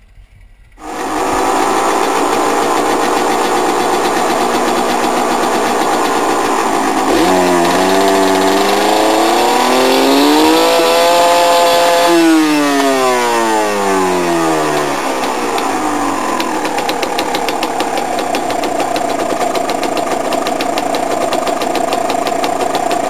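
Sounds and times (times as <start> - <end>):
two-stroke engine revving: 0.8 - 23.0.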